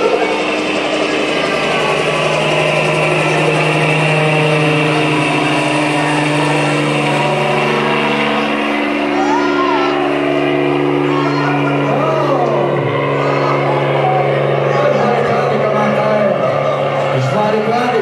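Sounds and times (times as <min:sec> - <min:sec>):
people droning with voices: 0:00.0 - 0:18.0.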